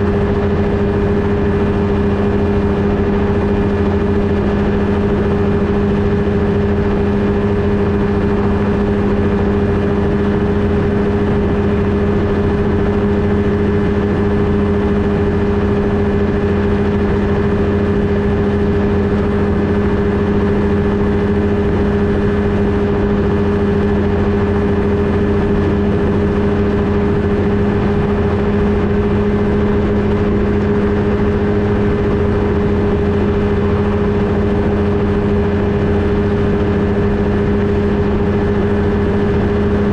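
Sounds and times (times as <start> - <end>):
ultralight engine and propeller: 0.0 - 39.9.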